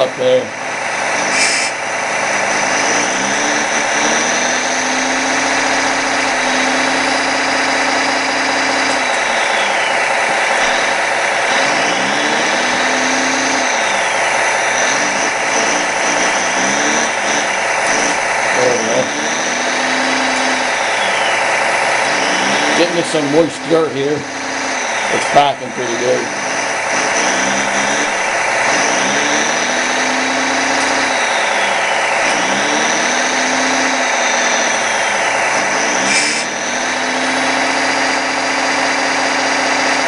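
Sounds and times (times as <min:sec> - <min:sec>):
diesel engine drone revving: 0:00.0 - 0:40.0
steady mechanical hum: 0:00.0 - 0:40.0.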